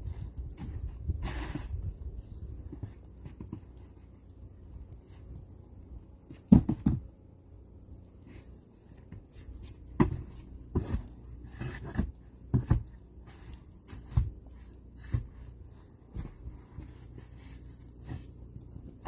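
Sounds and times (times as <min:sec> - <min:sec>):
irregular thumps and scrapes: 0:00.0 - 0:19.0.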